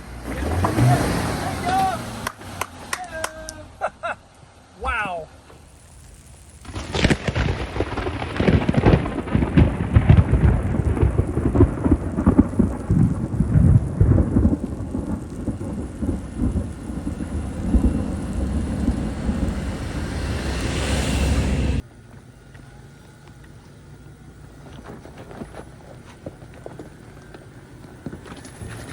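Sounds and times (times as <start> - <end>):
off-road vehicle rumble with knocks: 0.0 - 4.2, 4.9 - 28.9.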